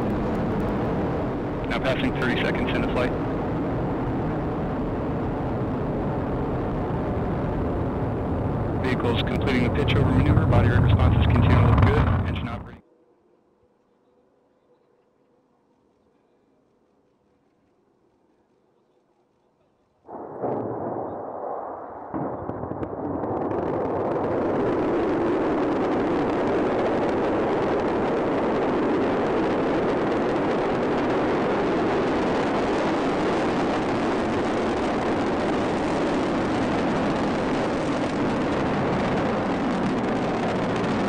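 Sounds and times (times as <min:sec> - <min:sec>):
rocket exhaust roar: 0:00.0 - 0:12.8, 0:20.1 - 0:41.0.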